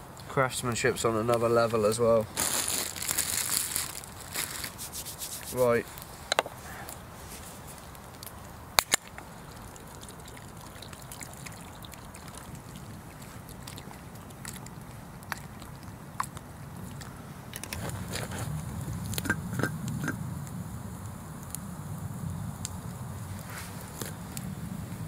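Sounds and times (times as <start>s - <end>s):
campfire crackling: 0.0s - 25.0s
steady low hiss: 0.0s - 25.0s
pot boiling: 1.2s - 25.0s.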